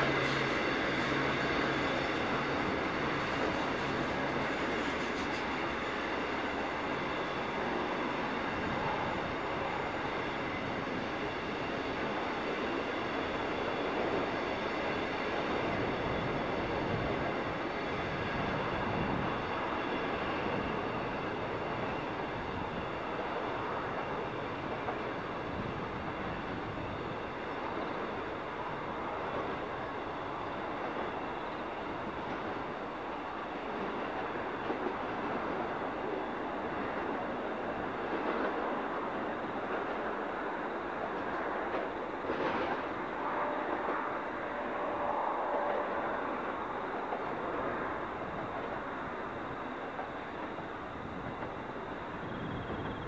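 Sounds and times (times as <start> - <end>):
train wheels on rail: 0.0 - 53.0.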